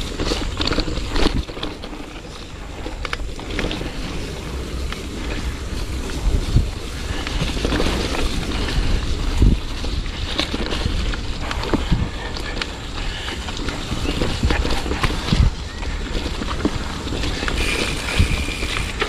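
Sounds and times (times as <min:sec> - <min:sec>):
bike rattles and knocks: 0:00.0 - 0:19.0
bike tyre noise on rocky track: 0:00.0 - 0:19.0
wind buffeting microphone: 0:00.0 - 0:19.0.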